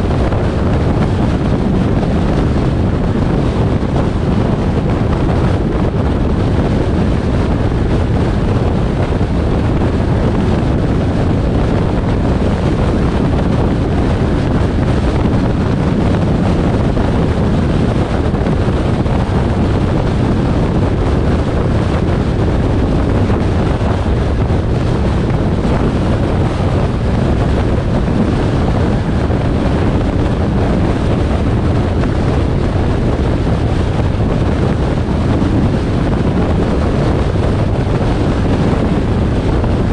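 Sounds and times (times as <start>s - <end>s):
car road and engine noise: 0.0s - 39.9s
wind rush on microphone: 0.0s - 39.9s.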